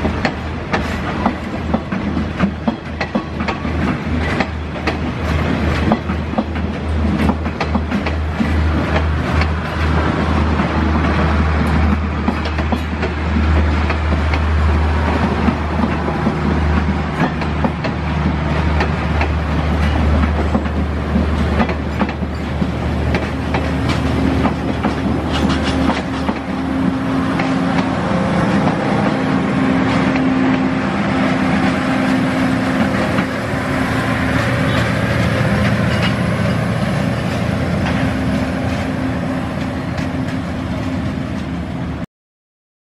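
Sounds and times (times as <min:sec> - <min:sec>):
train wheels clacking over rail joints: 0:00.0 - 0:41.6.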